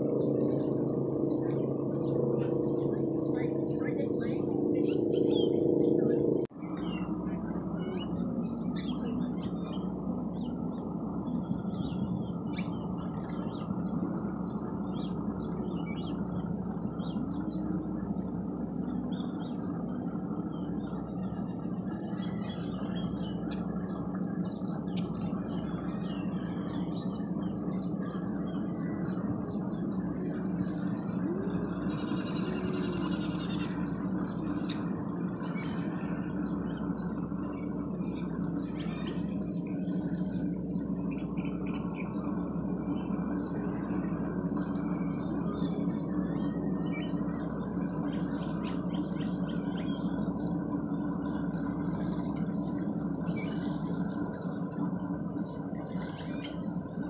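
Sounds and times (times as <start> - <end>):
low outdoor rumble: 0.0 - 57.0
small birds chirping: 0.0 - 57.0.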